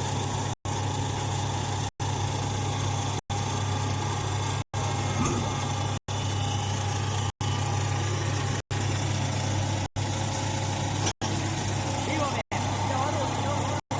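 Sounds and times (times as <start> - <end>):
baler motor and pump humming: 0.0 - 13.9.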